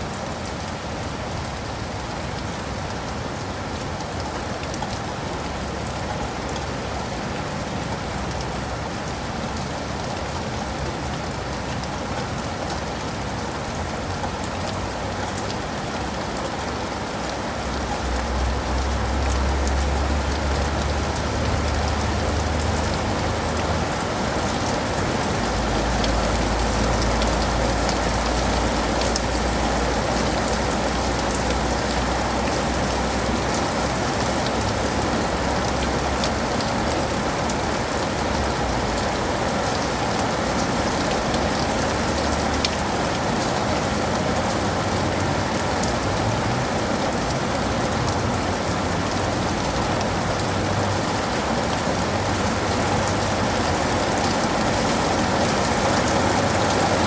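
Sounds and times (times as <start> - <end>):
rain on leaves and pavement: 0.0 - 57.0.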